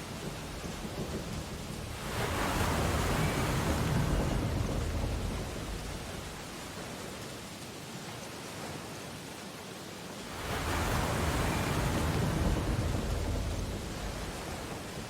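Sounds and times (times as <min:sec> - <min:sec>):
ocean waves washing on beach: 0:00.0 - 0:15.0
steady hiss of surf: 0:00.0 - 0:15.0.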